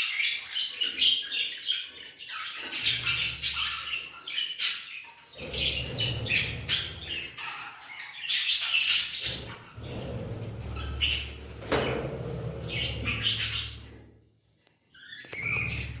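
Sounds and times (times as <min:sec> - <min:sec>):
budgerigars chirping: 0:00.0 - 0:14.0, 0:15.0 - 0:16.0.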